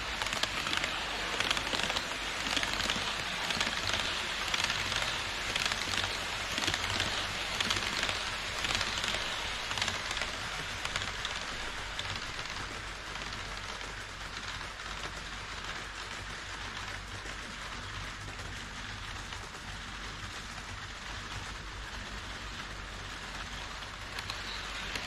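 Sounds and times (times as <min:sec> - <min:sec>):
model train wheels rattling on track: 0:00.0 - 0:25.0.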